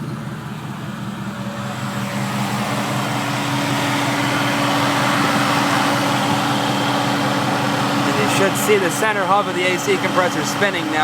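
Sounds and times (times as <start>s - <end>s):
car engine idling: 0.0s - 11.0s
rushing whir: 0.0s - 11.0s.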